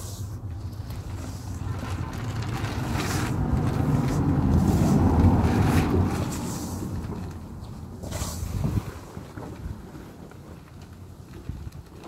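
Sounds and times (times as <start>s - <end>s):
low rumbling: 0.0s - 12.0s.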